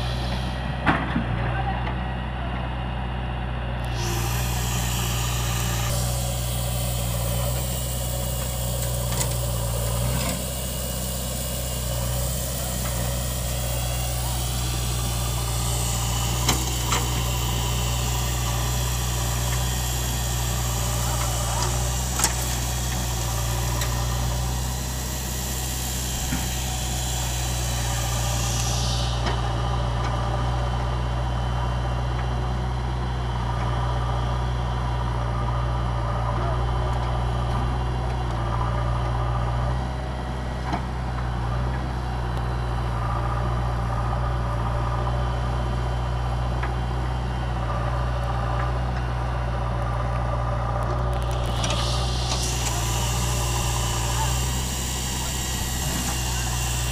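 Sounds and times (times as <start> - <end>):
diesel engines idling: 0.0 - 56.9.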